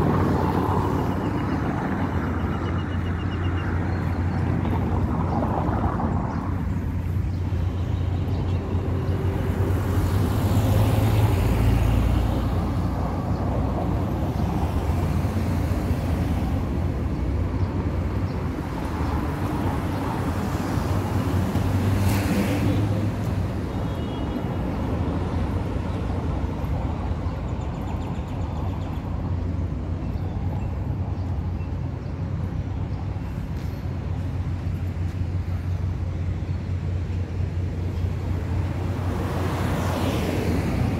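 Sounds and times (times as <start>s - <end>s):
cars passing: 0.0s - 40.9s.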